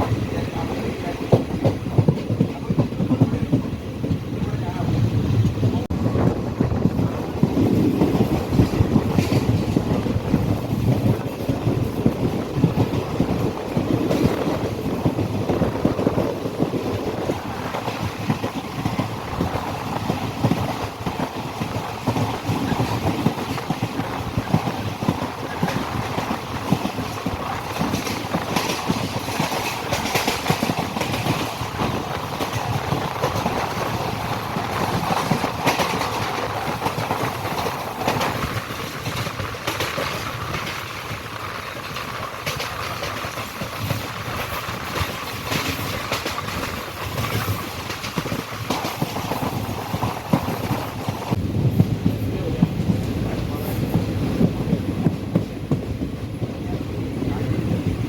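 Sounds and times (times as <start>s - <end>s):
train carriage rumble: 0.0s - 58.0s
wheels clattering over rails: 5.4s - 56.5s.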